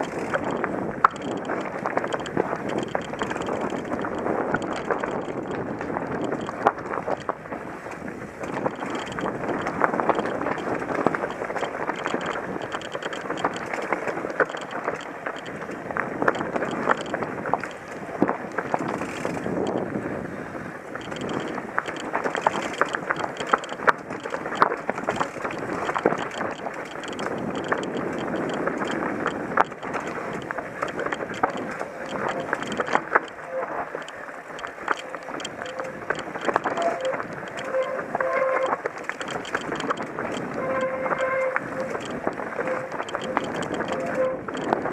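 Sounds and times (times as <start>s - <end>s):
bike clicking and rattling over rocks: 0.0s - 44.9s
tyre and wind rush: 0.0s - 44.9s.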